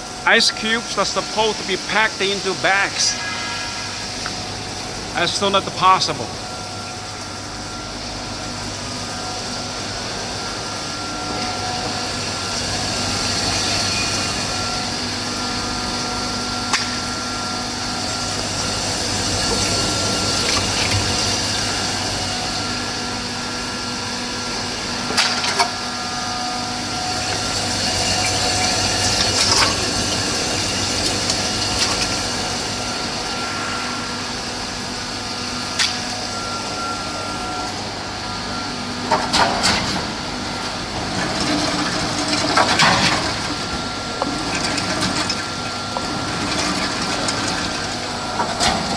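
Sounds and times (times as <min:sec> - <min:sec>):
ice machine mechanical hum: 0:00.0 - 0:48.9.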